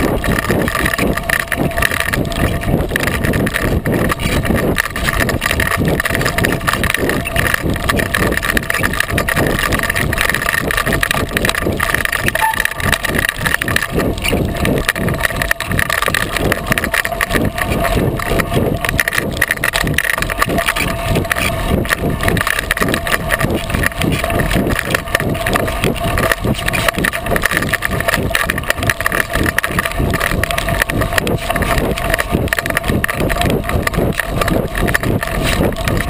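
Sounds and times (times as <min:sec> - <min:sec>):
tyre rolling on gravel trail: 0:00.0 - 0:36.0.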